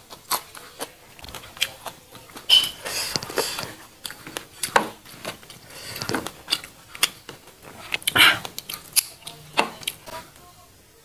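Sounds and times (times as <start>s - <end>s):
chewing: 0.0s - 10.2s
fingers picking at food: 0.0s - 10.2s.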